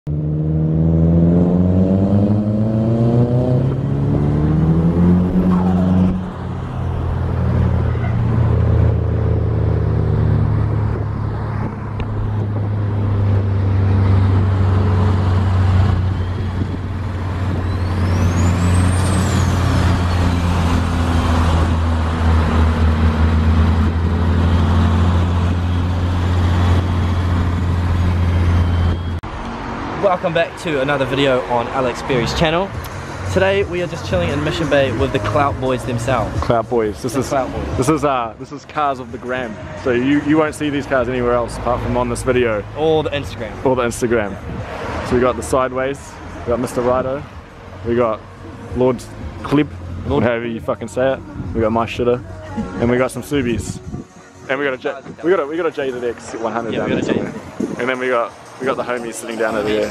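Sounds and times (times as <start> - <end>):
car engine revving and humming: 0.0 - 54.5.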